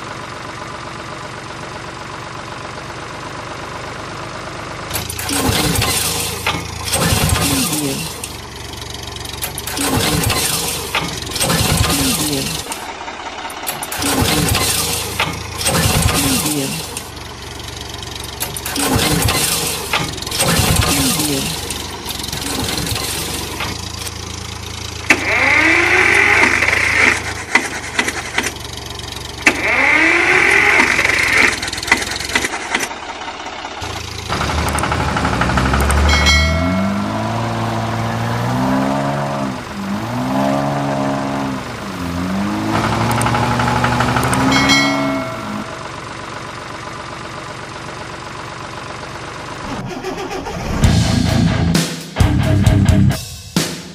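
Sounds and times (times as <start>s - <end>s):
tractor engine revving: 4.7s - 53.2s.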